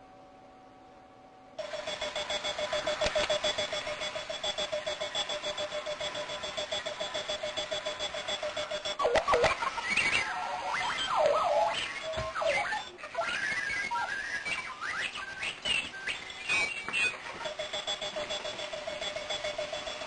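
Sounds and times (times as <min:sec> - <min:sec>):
alarm clock electronic beeps: 0:01.6 - 0:20.0.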